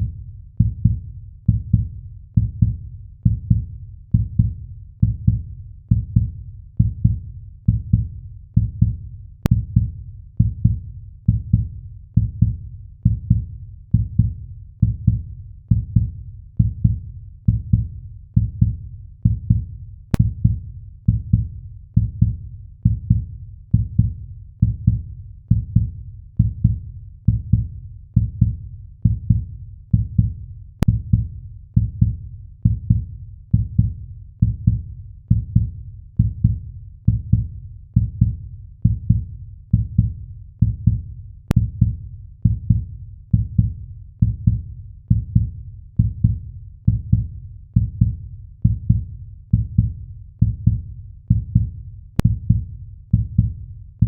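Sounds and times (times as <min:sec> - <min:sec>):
heartbeat thumps: 0:00.0 - 0:53.7.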